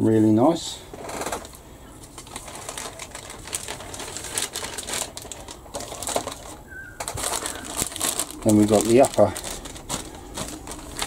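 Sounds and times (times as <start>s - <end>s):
plastic bag crinkling: 0.9s - 11.0s.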